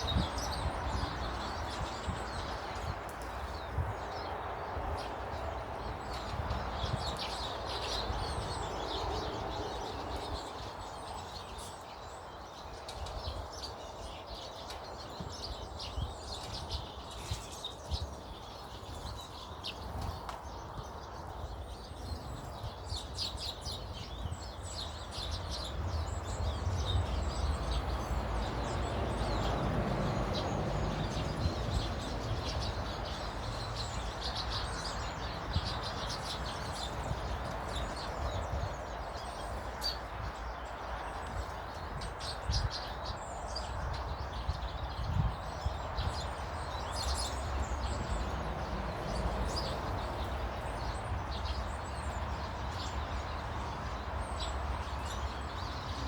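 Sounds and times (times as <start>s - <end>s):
garden birds chirping: 0.0s - 56.0s.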